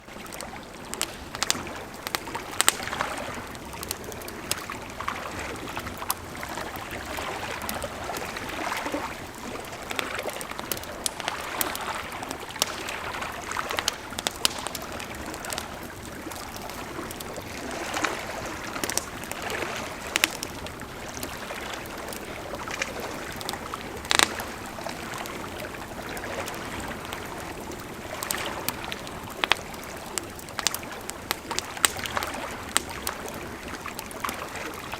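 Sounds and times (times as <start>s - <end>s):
campfire crackling and popping: 0.0s - 34.9s
river flowing: 0.0s - 34.9s.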